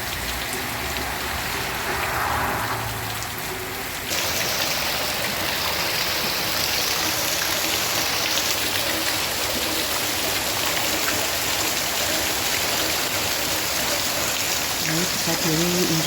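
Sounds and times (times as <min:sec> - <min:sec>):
heavy rain on ground: 0:00.0 - 0:16.0.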